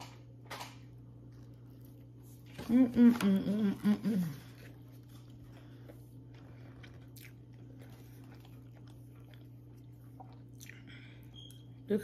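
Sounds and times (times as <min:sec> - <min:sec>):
steady low hum: 0:00.0 - 0:12.0
quiet chewing: 0:01.2 - 0:11.8.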